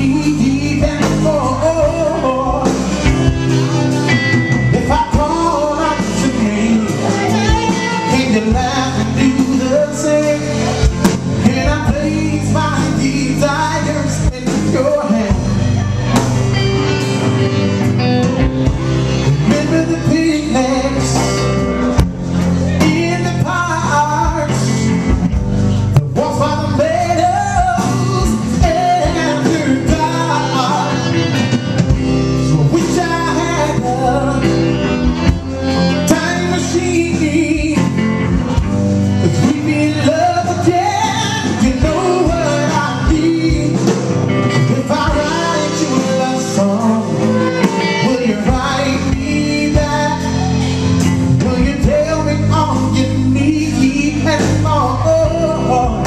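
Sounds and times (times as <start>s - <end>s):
guitar-led band music: 0.0s - 56.0s
person singing: 0.0s - 56.0s.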